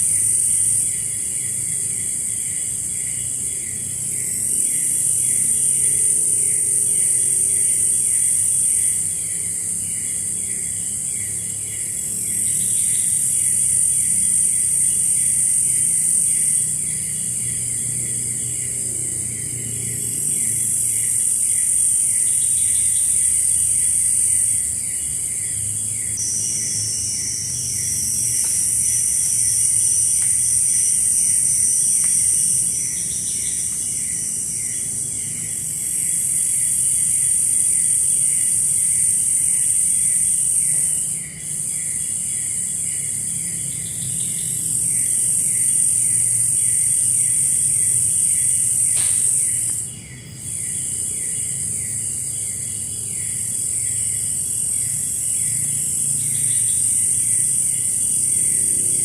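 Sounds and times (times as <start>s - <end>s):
low repeating insect chirp: 0.0s - 59.0s
shrill insect buzz: 0.0s - 59.0s.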